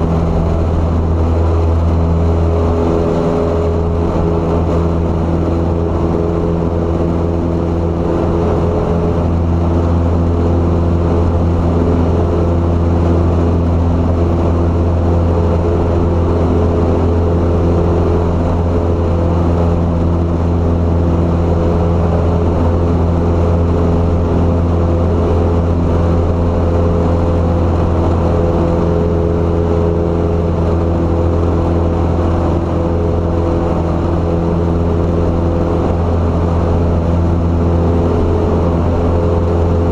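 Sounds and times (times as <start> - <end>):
light plane engine droning: 0.0 - 39.9.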